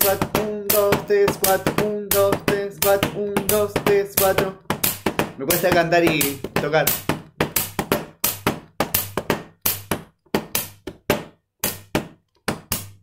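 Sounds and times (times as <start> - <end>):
hand slapping glass table: 0.0 - 13.0
pen tapping on glass: 0.0 - 13.0.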